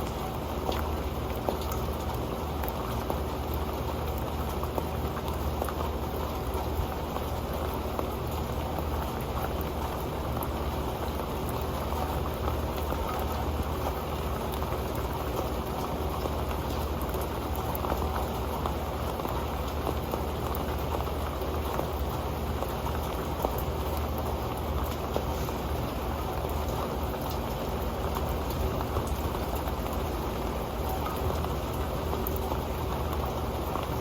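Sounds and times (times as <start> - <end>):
rain falling on a pan: 0.0 - 34.0.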